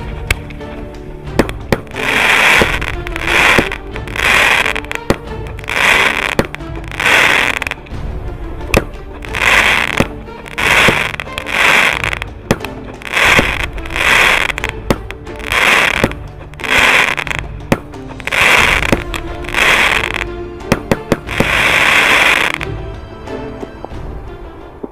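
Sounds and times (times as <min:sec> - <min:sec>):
background music: 0:00.0 - 0:24.9
firework pops: 0:01.3 - 0:07.9, 0:08.7 - 0:22.7
firework crackling: 0:01.3 - 0:08.0, 0:08.7 - 0:22.7.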